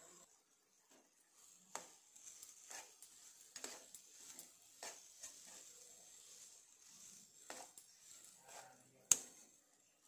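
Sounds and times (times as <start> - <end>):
spoon scraping and tapping a pan: 0.9 - 9.8.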